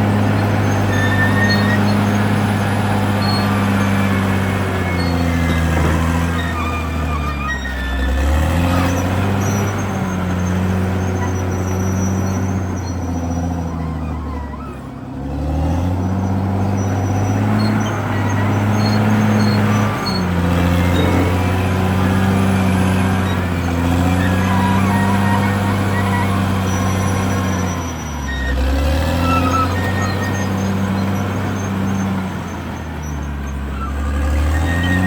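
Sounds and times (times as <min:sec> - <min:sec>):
short high squeaks: 0:00.0 - 0:15.0, 0:15.6 - 0:35.0
bulldozer diesel engine under load: 0:00.0 - 0:35.0.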